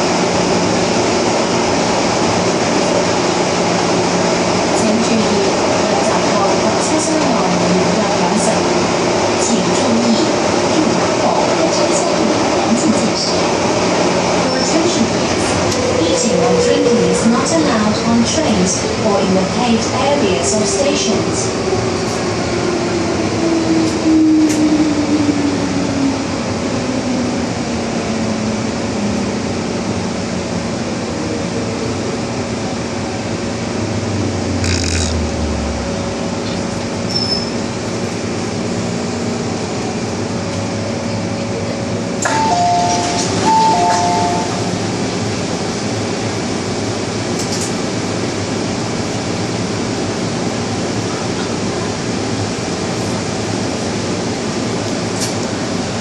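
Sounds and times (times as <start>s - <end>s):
train rolling rumble: 0.0s - 56.0s
train traction whine: 0.0s - 56.0s.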